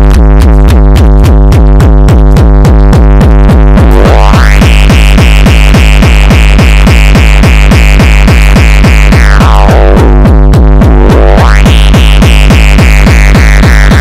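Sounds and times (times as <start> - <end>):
fast pitched kick drum: 0.0 - 14.0.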